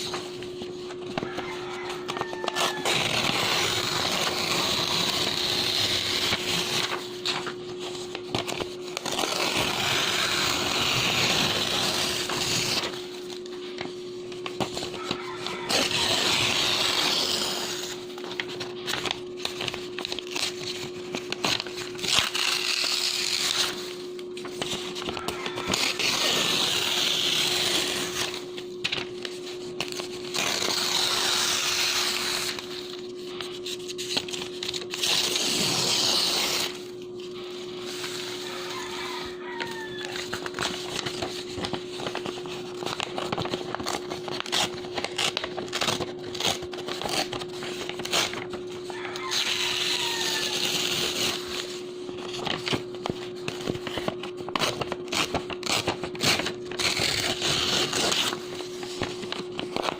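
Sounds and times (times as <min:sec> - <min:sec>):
paper tearing: 0:00.0 - 0:13.4, 0:14.4 - 0:37.0, 0:37.8 - 0:59.9
paper crackling: 0:00.0 - 0:59.9
steady low hum: 0:00.0 - 0:59.9.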